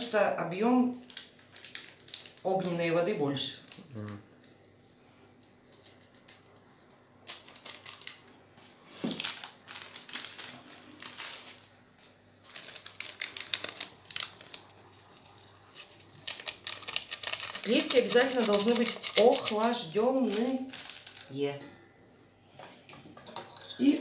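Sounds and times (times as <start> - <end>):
paper sachet rustling and tearing: 0.9 - 2.7, 3.6 - 21.4.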